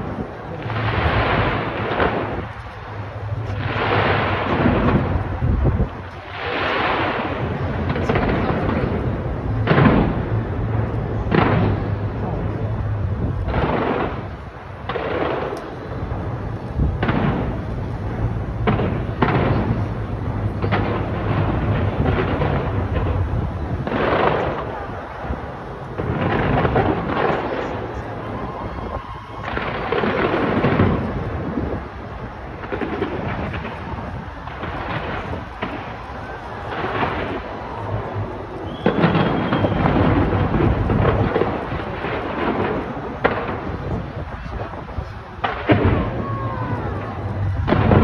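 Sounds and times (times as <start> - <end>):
fireworks booming: 0.0 - 48.0
sharp fireworks bangs: 0.0 - 48.0.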